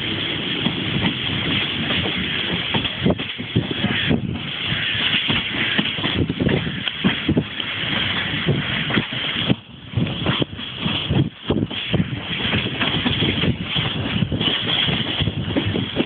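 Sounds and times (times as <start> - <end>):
train running noise inside carriage: 0.0 - 16.0
wheels clattering over rail joints: 0.0 - 16.0.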